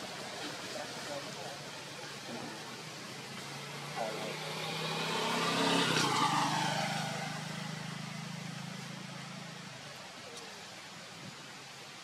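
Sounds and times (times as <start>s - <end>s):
vehicle engine passing by: 0.2s - 10.0s.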